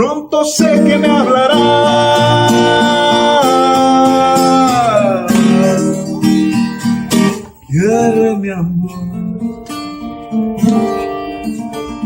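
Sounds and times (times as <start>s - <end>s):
person singing: 0.0s - 9.8s
strummed acoustic guitar: 0.0s - 12.0s.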